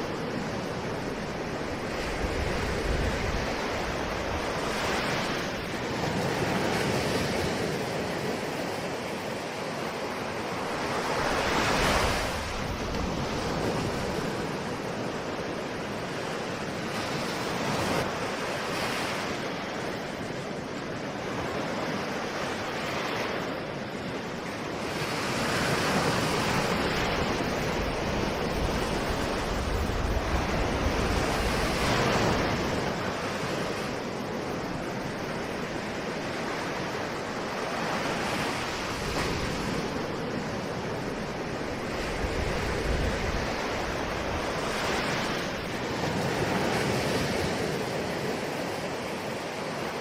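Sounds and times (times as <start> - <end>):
ocean waves breaking: 0.0 - 50.0.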